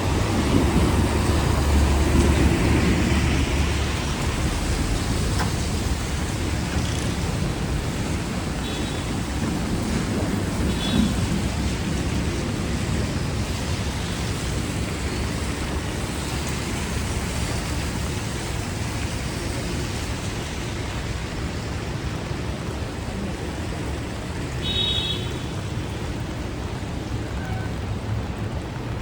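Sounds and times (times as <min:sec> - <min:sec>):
rain hissing: 0:00.0 - 0:29.0
traffic on wet streets: 0:00.0 - 0:29.0.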